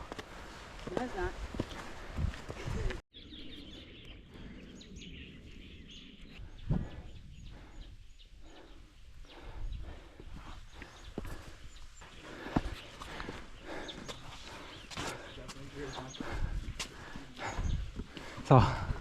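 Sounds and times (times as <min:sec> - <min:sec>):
small birds chirping: 0:01.0 - 0:19.0.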